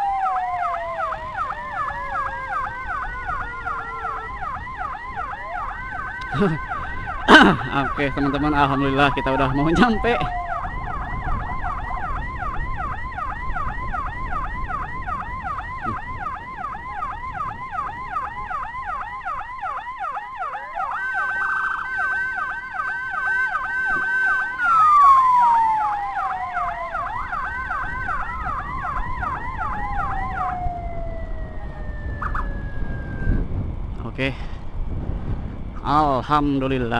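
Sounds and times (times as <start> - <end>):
siren tone sliding down: 0.0 - 33.8
siren yelp: 0.0 - 33.9.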